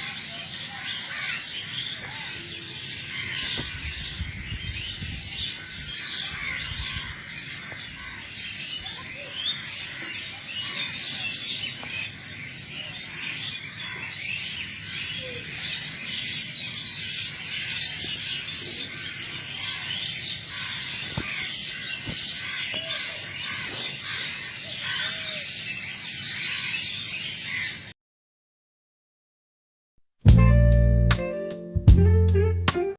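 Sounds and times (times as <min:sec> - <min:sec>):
birds chirping and calling: 0:00.0 - 0:27.9.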